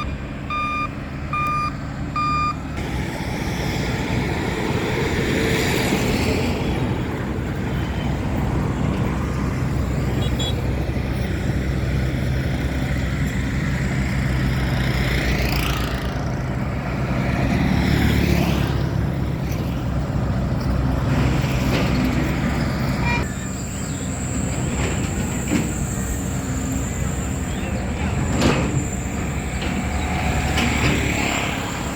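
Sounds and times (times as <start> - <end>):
traffic engine rumble: 0.0 - 31.9
vehicles passing close by: 0.0 - 31.9.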